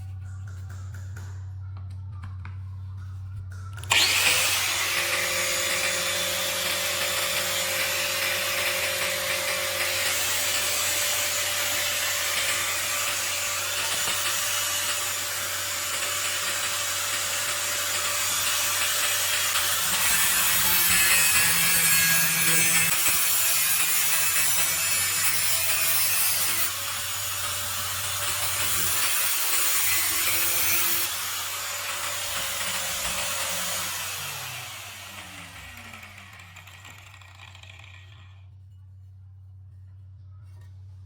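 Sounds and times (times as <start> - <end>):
circular saw cutting wood: 3.8 - 38.5.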